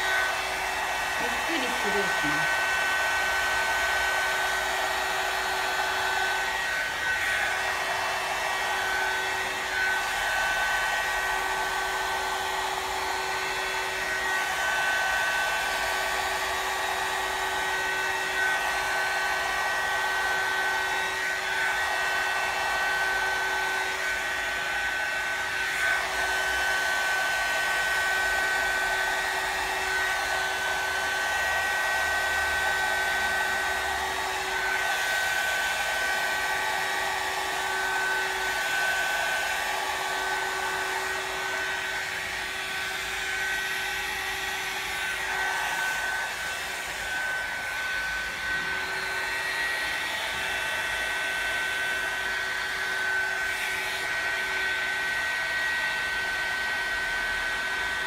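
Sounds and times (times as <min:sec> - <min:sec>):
hair dryer whine and air rush: 0:00.0 - 0:58.0.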